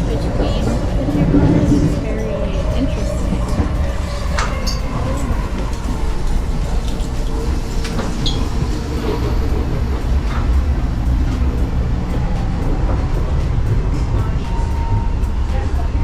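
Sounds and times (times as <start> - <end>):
train rumbling at speed: 0.0 - 16.0.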